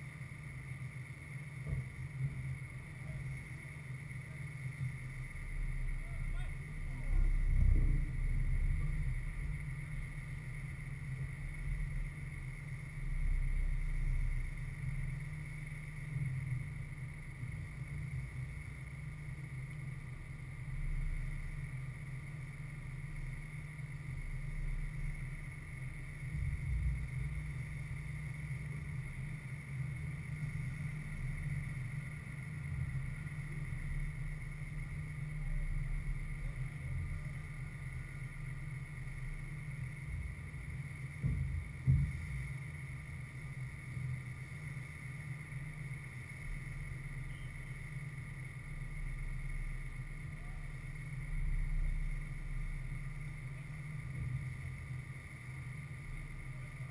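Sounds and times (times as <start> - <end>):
faint high-pitched whine: 0.0 - 56.9.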